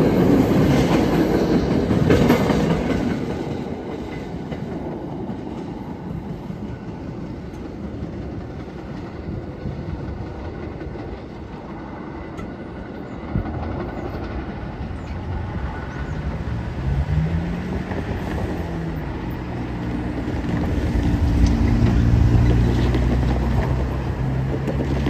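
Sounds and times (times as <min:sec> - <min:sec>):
rumble of departing train: 0:00.0 - 0:25.0.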